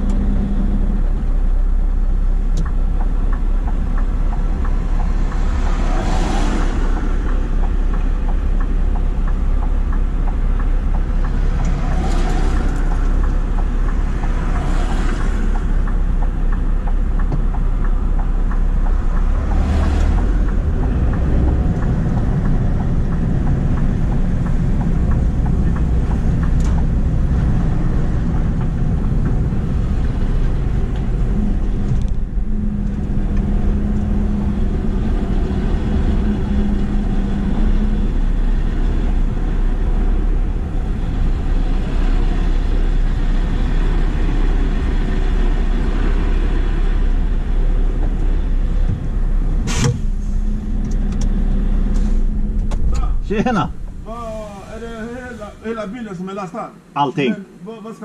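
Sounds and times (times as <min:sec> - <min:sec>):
truck diesel engine rumble: 0:00.0 - 0:58.0.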